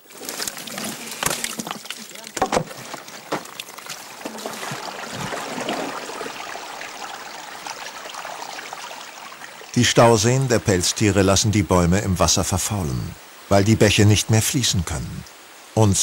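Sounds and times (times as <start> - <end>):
water trickling and running: 0.0 - 15.6.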